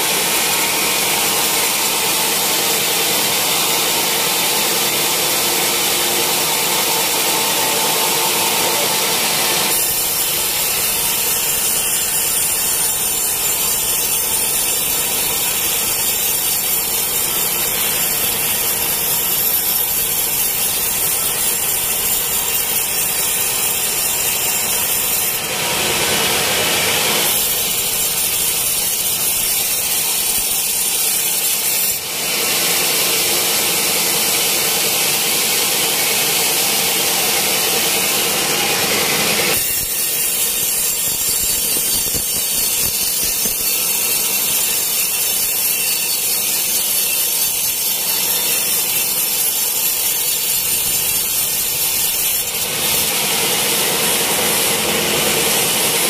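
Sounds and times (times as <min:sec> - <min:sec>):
band saw cutting log: 0:00.0 - 0:56.0
sawmill machine running: 0:00.0 - 0:56.0.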